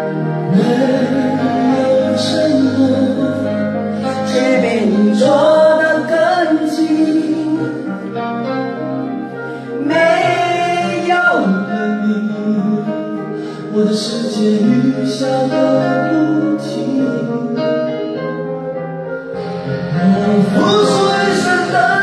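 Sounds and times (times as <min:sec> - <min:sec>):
person singing: 0:00.0 - 0:18.2, 0:19.4 - 0:22.0
backing track music: 0:00.0 - 0:22.0.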